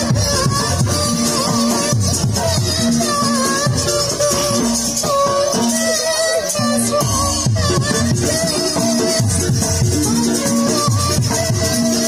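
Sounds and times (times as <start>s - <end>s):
drums: 0.0s - 12.0s
jingling percussion: 0.0s - 12.0s
live dance music: 0.0s - 12.0s.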